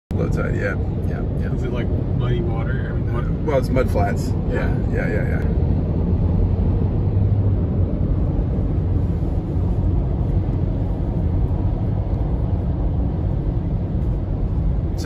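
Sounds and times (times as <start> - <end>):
car cabin road rumble: 0.1 - 15.0.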